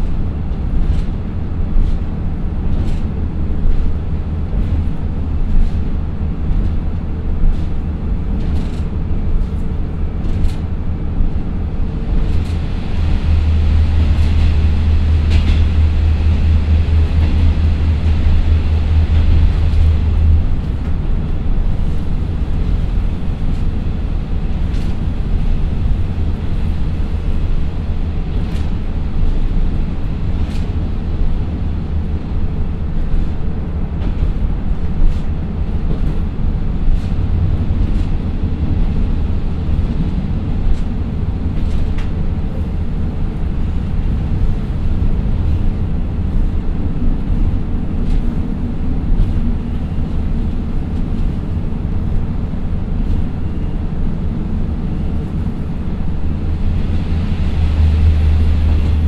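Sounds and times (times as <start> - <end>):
diesel engine drone: 0.0 - 59.0
train wheels rumbling on rails: 0.0 - 59.0.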